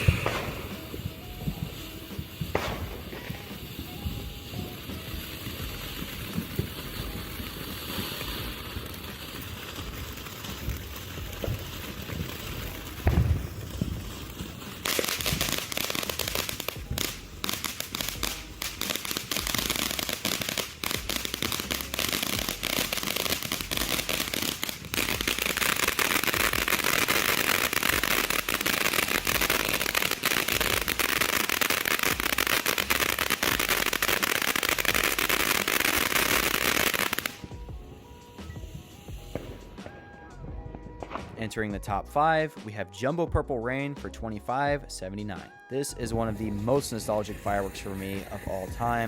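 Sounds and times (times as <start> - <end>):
firework fountain crackling: 0.0 - 42.5, 45.8 - 49.0.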